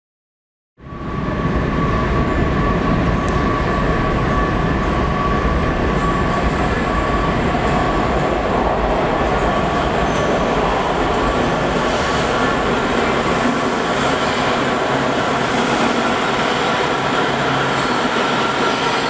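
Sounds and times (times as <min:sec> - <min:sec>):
train rumble in tunnel: 0:00.8 - 0:19.0.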